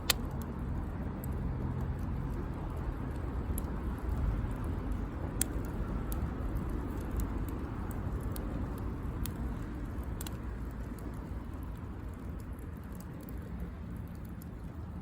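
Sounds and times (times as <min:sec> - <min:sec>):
campfire crackling: 0:00.0 - 0:15.0
fire pops: 0:00.0 - 0:15.0.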